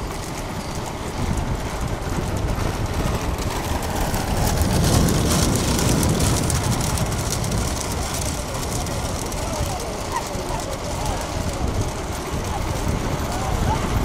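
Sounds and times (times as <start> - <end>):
cart wheels rolling: 0.0 - 14.0
galloping hooves on asphalt: 0.0 - 14.0.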